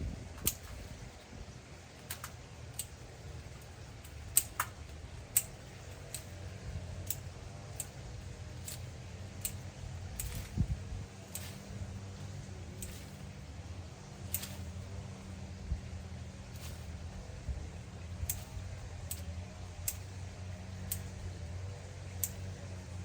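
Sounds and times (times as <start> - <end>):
low steady rumble: 0.0 - 23.0
pruning shears snipping: 0.3 - 23.0.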